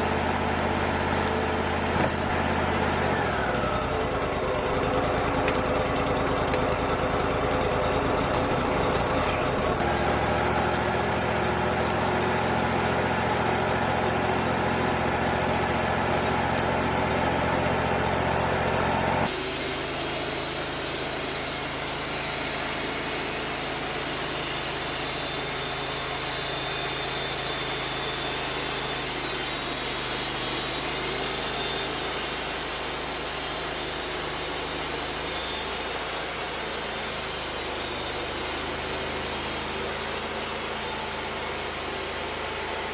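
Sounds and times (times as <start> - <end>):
bandsaw blade cutting wood: 0.0 - 17.7, 19.2 - 42.9
sawmill engine running: 0.0 - 42.9.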